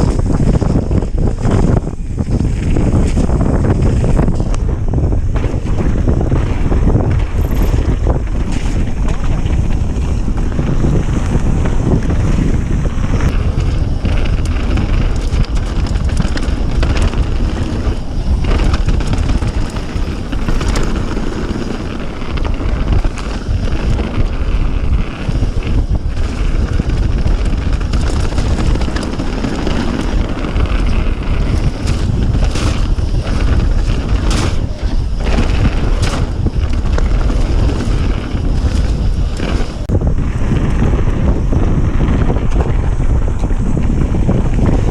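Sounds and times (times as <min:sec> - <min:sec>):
bike knocks and clicks: 0:00.0 - 0:44.9
wind rumbling over microphone: 0:00.0 - 0:44.9.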